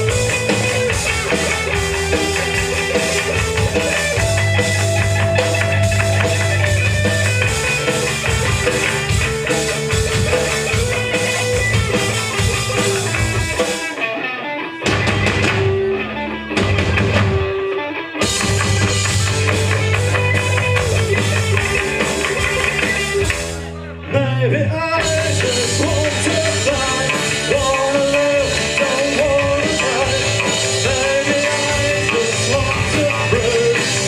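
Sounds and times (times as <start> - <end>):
punk rock band playing: 0.0 - 34.0.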